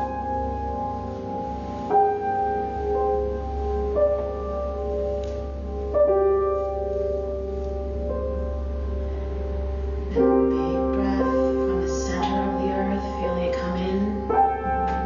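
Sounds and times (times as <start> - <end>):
slow piano notes: 0.0 - 15.0.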